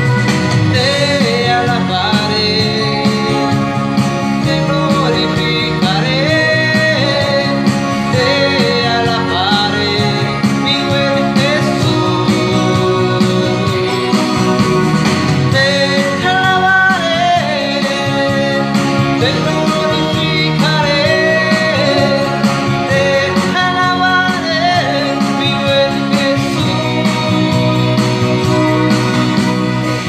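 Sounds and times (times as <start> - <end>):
instrumental accompaniment: 0.0 - 30.0
man singing worship song: 0.6 - 28.8.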